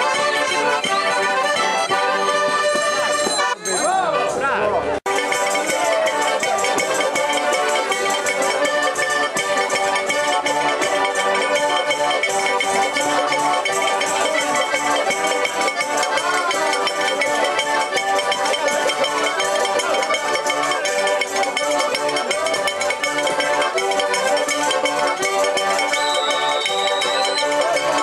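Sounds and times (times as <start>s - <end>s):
button accordions playing folk tune: 0.0s - 4.4s, 5.1s - 28.0s.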